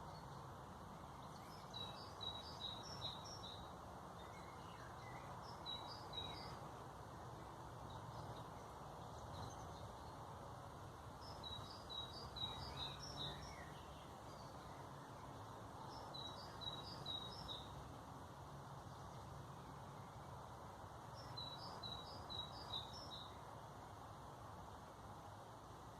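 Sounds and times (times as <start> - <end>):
songbird singing: 0.0 - 25.9.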